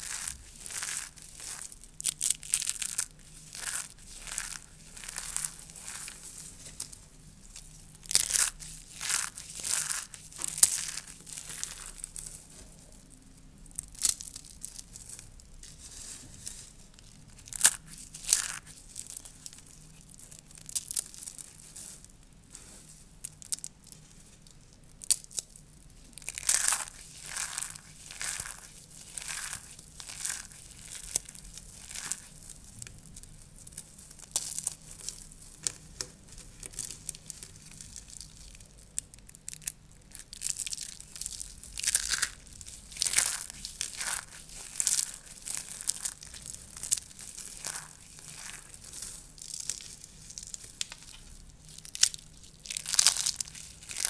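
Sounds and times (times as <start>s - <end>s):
soap curls crunching: 0.0s - 22.2s, 22.8s - 54.0s.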